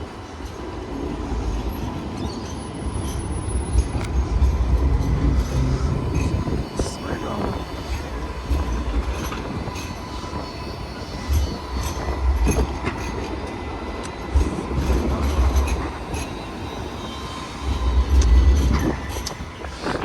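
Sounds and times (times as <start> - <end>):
tram wheel squeal: 0.0 - 20.0.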